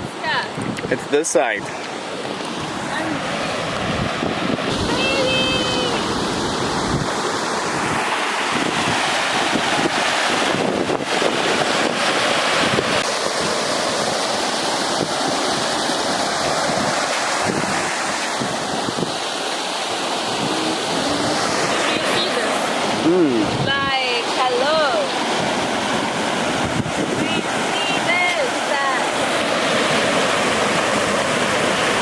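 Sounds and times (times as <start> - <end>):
stream water rushing: 0.0 - 32.0
wind buffeting microphone: 0.0 - 32.0.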